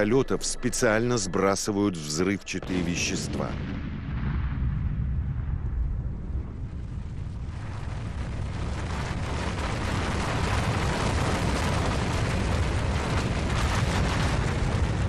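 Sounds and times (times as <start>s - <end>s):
avalanche deep rumble: 2.7s - 15.0s.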